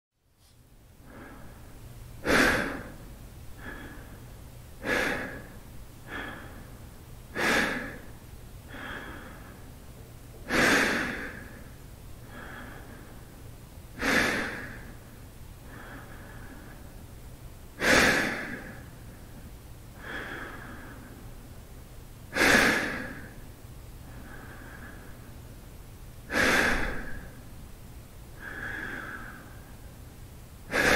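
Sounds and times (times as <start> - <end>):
man breathing deeply: 1.0 - 17.1, 17.8 - 21.5, 22.3 - 27.5, 28.3 - 30.9.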